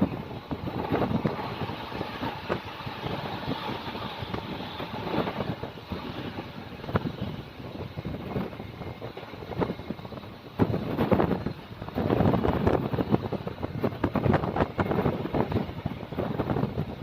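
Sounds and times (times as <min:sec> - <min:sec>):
train rumbling at speed: 0:00.0 - 0:17.0
wind buffeting microphone: 0:00.0 - 0:17.0.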